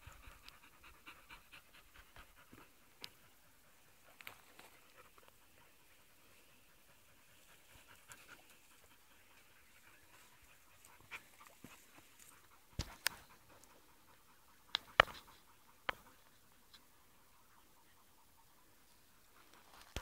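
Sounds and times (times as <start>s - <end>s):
dog panting: 0.0s - 16.6s.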